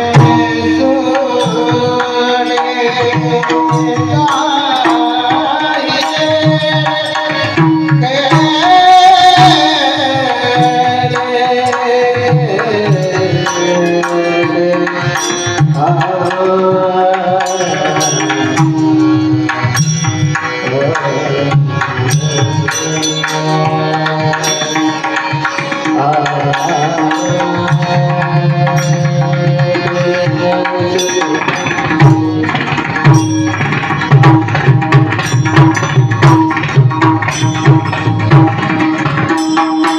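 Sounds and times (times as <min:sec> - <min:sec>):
held accompanying tones: 0:00.0 - 0:39.9
man singing devotional song: 0:00.0 - 0:39.9
tabla playing a rhythm: 0:00.0 - 0:39.9.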